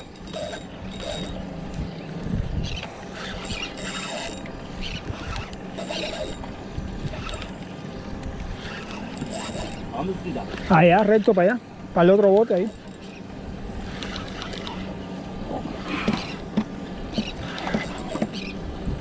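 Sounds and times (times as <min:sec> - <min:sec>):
fishing reel clicks and rustles: 0:00.0 - 0:18.7
boat low hum: 0:00.0 - 0:19.0.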